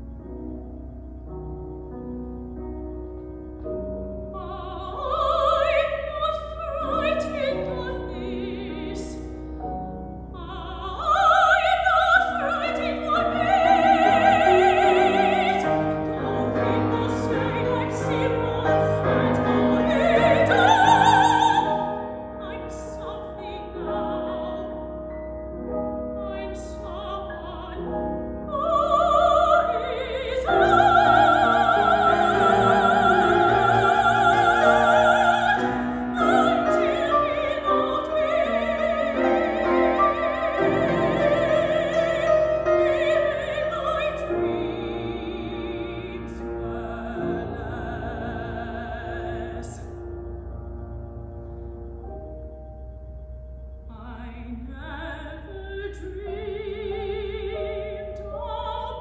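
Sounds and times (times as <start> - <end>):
grand piano: 0.0 - 59.0
woman singing opera: 4.2 - 9.5, 10.2 - 25.2, 25.9 - 50.0, 53.9 - 59.0.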